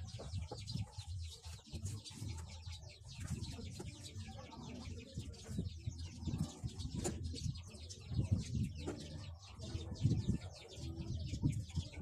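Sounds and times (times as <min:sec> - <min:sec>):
chickens calling: 0:00.0 - 0:12.0
small birds chirping: 0:00.0 - 0:12.0.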